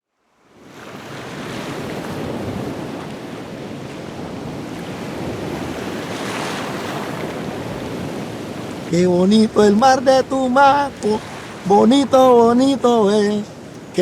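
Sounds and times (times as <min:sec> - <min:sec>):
ocean waves breaking: 0:00.5 - 0:14.0.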